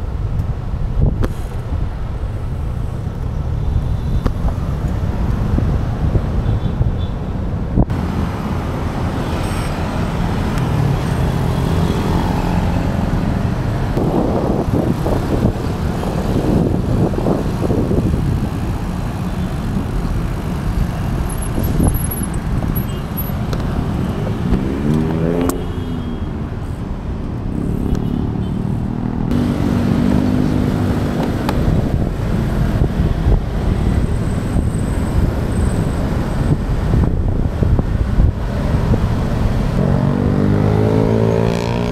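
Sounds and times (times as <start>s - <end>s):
wind on microphone: 0.0s - 25.5s, 28.9s - 41.9s
cars and motorcycles passing: 0.0s - 41.9s.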